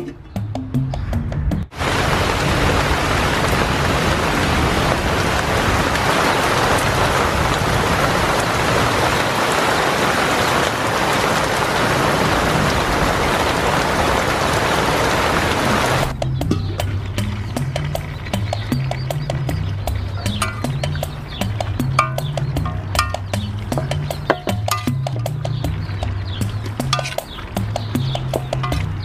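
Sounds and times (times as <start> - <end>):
rain falling on plants: 1.7 - 29.0.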